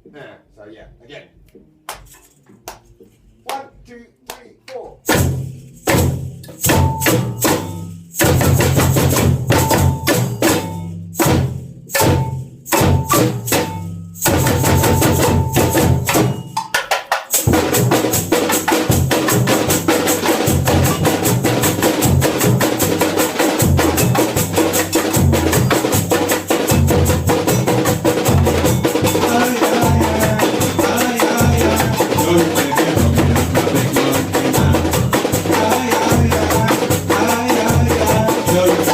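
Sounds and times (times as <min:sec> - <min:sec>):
samba drumming: 0:04.8 - 0:38.9.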